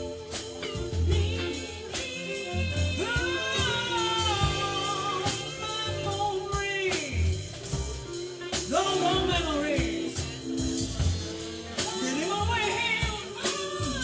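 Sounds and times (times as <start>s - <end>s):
person singing: 0.0s - 11.0s, 11.6s - 14.0s
soul band playing a slow ballad: 0.0s - 14.0s.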